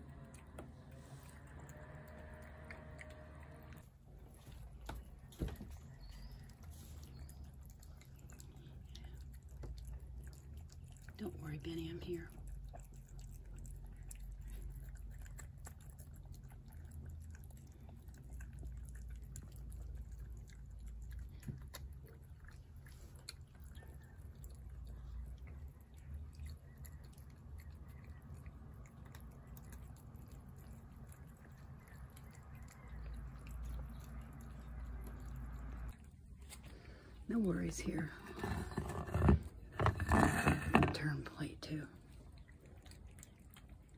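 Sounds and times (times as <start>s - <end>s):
cat chewing wet food: 0.0s - 37.3s, 38.1s - 43.9s.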